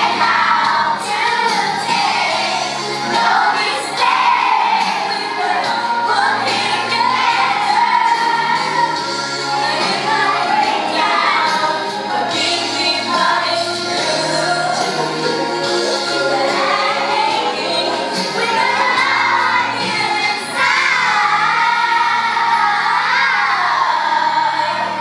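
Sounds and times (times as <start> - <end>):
accompanying music: 0.0 - 25.0
children singing: 0.0 - 25.0.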